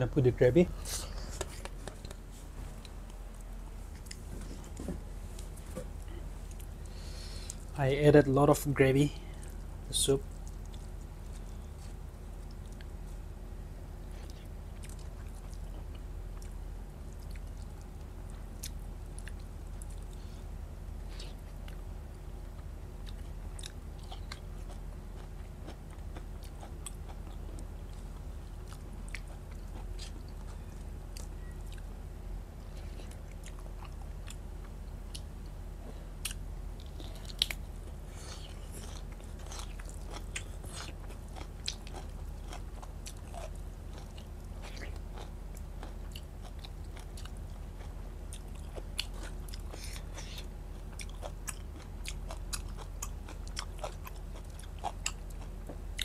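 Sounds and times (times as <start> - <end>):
low electrical hum: 0.0 - 56.0
person chewing food: 0.8 - 7.7, 9.3 - 13.2, 14.0 - 32.0, 32.6 - 56.0.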